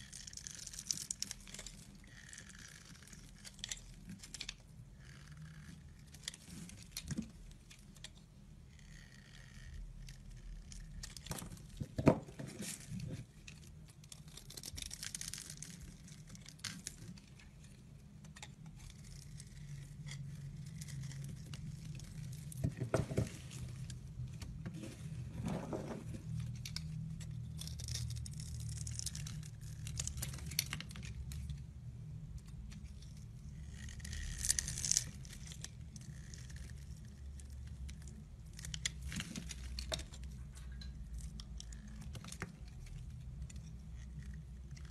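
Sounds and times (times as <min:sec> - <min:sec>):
knife scraping soap: 0:00.0 - 0:31.6, 0:32.4 - 0:44.9.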